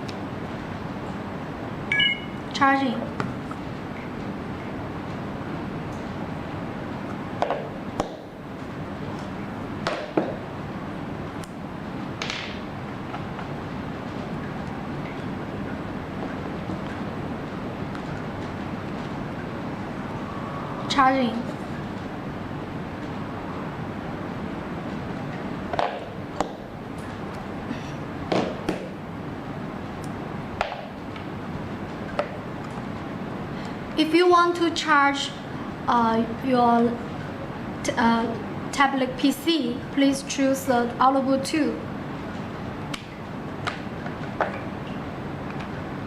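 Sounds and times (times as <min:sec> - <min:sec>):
background rumble and hiss: 0:00.0 - 0:46.0.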